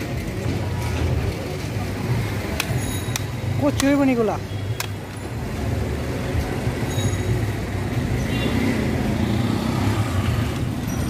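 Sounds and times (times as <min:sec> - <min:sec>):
road traffic engine rumble: 0:00.0 - 0:11.0.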